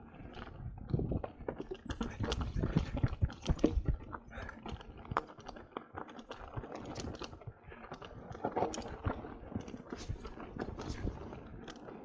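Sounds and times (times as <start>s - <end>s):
bike rattling over gravel: 0.0s - 12.0s.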